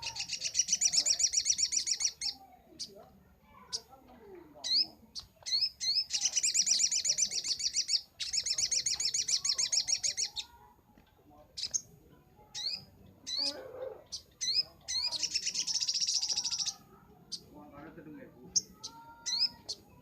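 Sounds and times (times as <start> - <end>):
bird chirps and trills: 0.0 - 10.7, 11.5 - 20.0.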